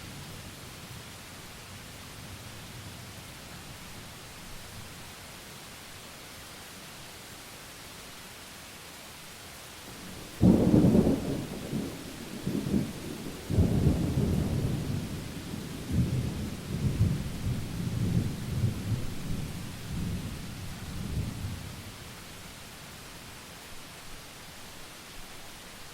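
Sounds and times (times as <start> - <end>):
faint steady hiss: 0.0 - 25.9.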